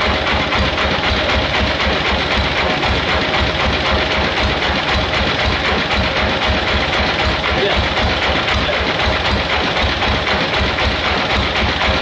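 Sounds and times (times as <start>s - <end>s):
sawmill machinery clattering: 0.0s - 12.0s.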